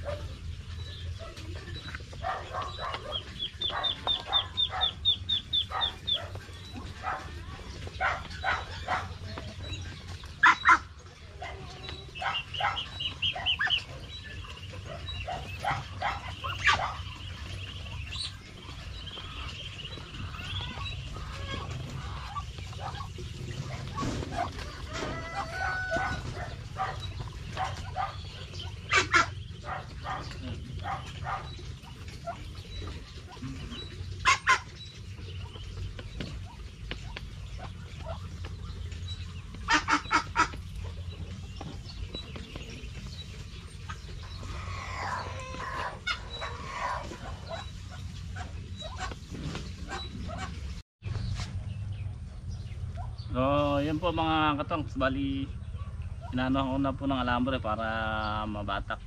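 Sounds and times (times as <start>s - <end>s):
sharp bird calls: 0.0s - 11.0s, 11.8s - 59.0s
chickens clucking: 0.0s - 59.0s
young birds peeping: 0.0s - 59.0s.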